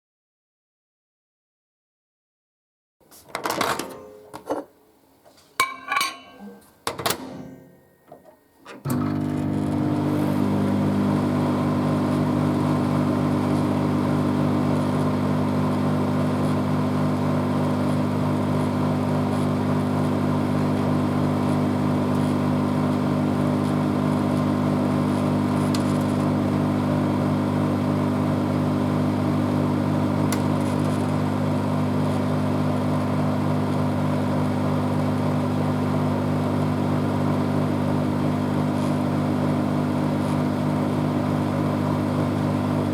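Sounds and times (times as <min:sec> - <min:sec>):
microwave oven humming: 0:06.4 - 0:42.9.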